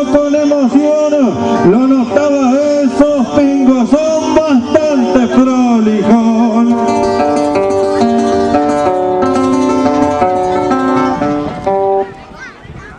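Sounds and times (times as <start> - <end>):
guitar melody with chords: 0.0 - 12.4.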